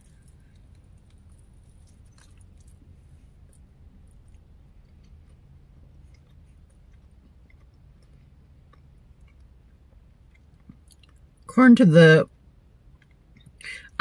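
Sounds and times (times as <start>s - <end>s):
faint chewing: 0.0s - 11.5s, 12.9s - 13.6s
low steady hum: 0.0s - 14.0s.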